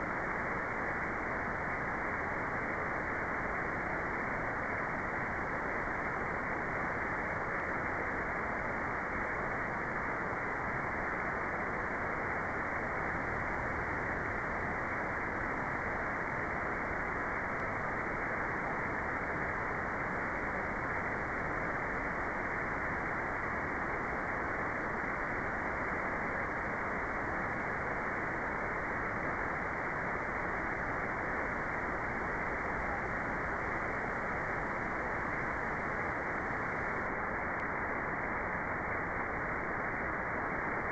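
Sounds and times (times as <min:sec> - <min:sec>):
muffled white noise: 0:00.0 - 0:40.9.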